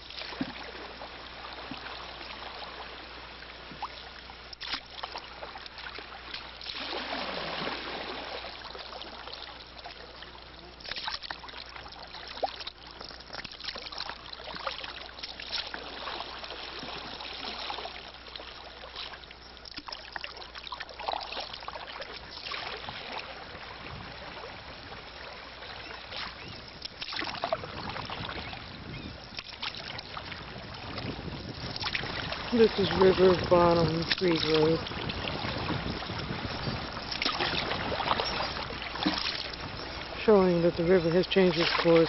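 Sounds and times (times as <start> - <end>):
river water splashing and trickling: 0.0 - 42.0.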